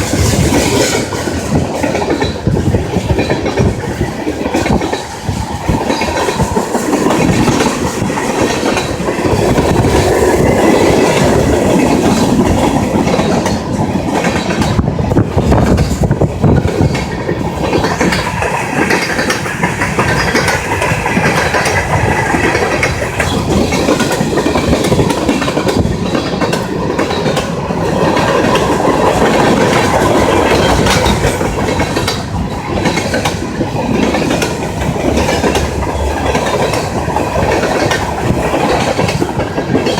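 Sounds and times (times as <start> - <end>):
freight train rumbling past: 0.0 - 39.9
wheels clattering over rail joints: 0.0 - 39.9.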